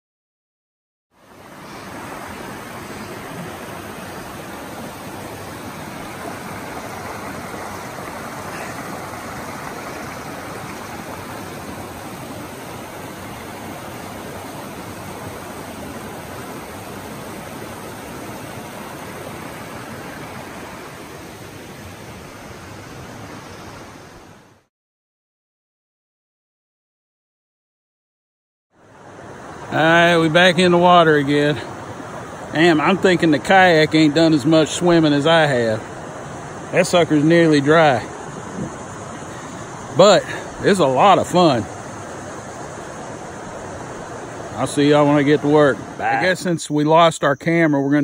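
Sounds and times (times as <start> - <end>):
river water rushing: 1.2 - 24.7, 28.8 - 48.0.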